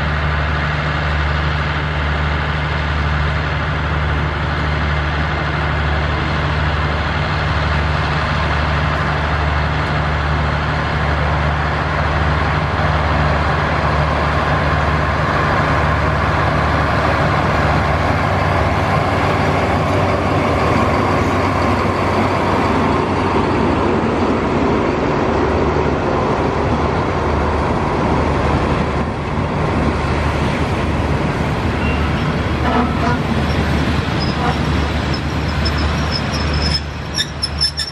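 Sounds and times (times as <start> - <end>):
locomotive engine drone: 0.0 - 37.9
train wheels rumbling on rails: 0.0 - 37.9.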